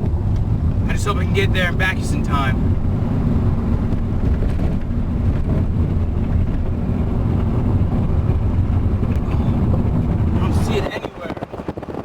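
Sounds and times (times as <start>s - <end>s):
road and engine noise inside car: 0.0s - 12.0s.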